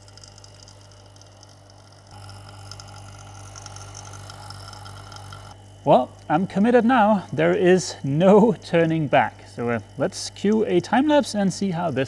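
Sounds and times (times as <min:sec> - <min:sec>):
vacuum pump humming: 0:00.0 - 0:12.0.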